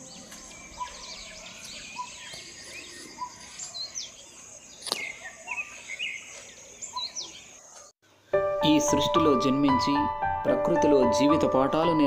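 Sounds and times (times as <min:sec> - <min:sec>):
birds chirping: 0:00.0 - 0:10.1.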